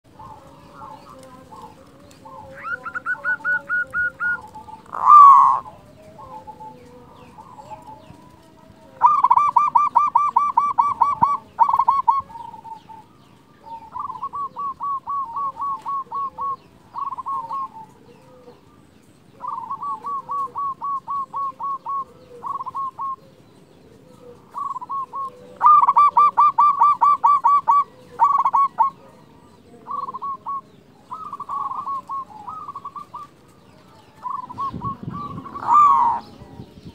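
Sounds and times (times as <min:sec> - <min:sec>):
doves cooing: 0:00.0 - 0:36.9.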